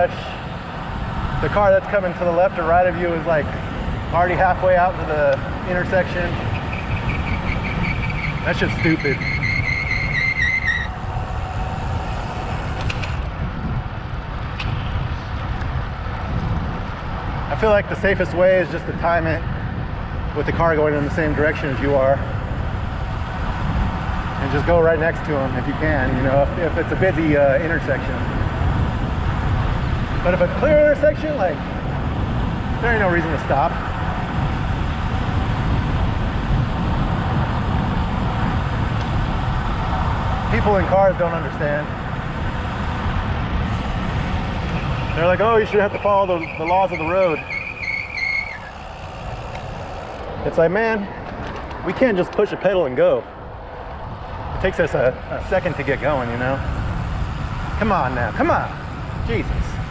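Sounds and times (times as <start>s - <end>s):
road noise: 0.0s - 59.9s
wind buffeting microphone: 0.0s - 59.9s.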